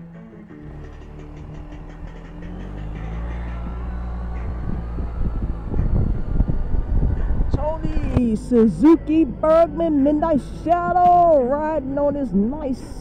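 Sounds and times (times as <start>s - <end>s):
scooter engine rumbling: 0.0s - 13.0s.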